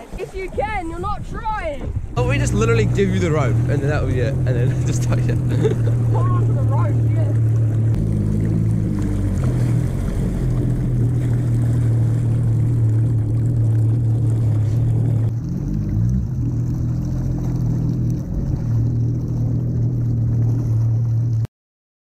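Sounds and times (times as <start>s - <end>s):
jet ski engine running: 0.0s - 21.5s.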